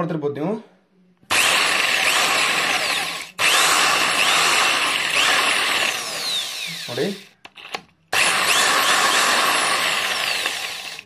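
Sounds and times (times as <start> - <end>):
electric drill boring into wall: 1.3 - 11.0.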